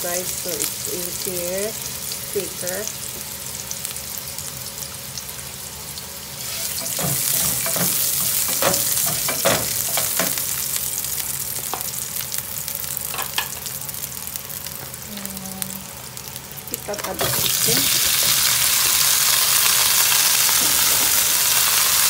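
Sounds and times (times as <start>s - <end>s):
ginger and garlic sizzling in oil: 0.0s - 22.0s.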